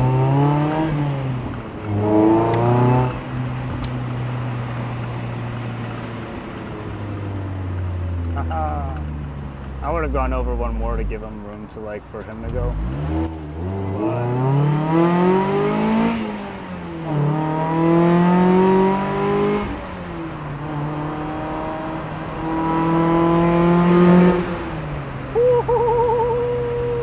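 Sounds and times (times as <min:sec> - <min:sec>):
car engine accelerating hard: 0:00.0 - 0:11.6, 0:12.2 - 0:27.0.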